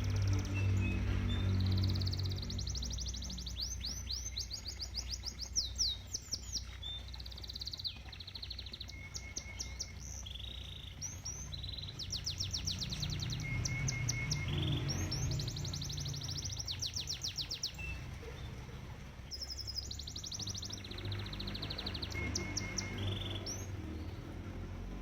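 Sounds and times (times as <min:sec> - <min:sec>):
canary singing: 0:00.0 - 0:18.6, 0:19.2 - 0:24.9
pond water rushing: 0:00.0 - 0:25.0.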